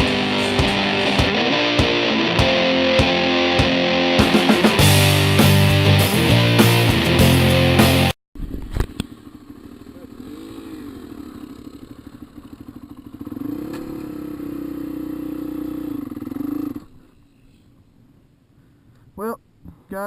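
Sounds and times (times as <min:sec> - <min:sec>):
dirt bike engine revving: 0:00.0 - 0:08.1, 0:08.9 - 0:17.2.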